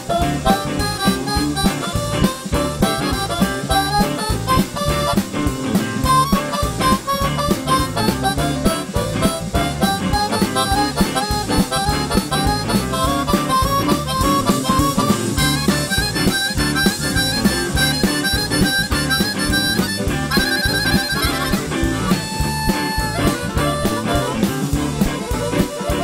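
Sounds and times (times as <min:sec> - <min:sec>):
blues harmonica solo: 0:00.0 - 0:26.0
live band playing: 0:00.0 - 0:26.0.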